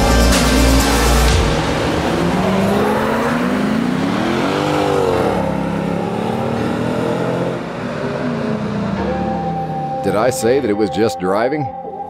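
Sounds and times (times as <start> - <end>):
car engine accelerating past: 0.0 - 10.2.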